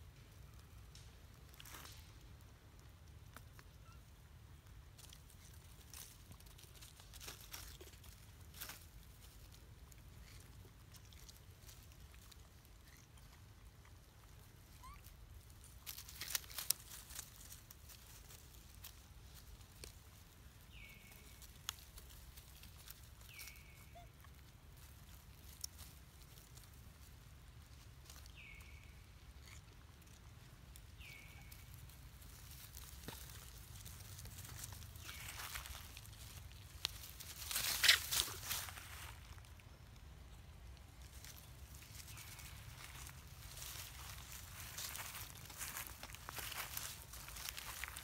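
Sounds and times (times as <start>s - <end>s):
monkeys rustling in dry leaves: 1.3s - 48.0s.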